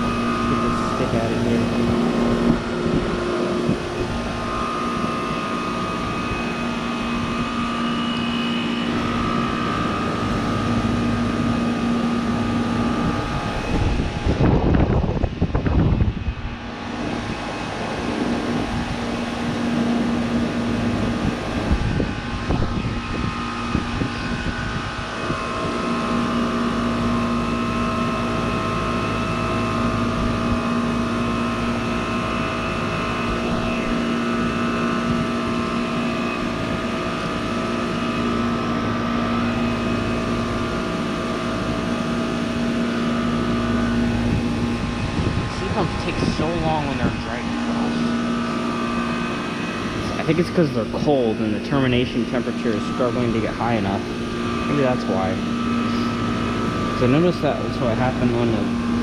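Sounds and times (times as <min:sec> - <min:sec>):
heat pump compressor humming: 0:00.0 - 0:59.0.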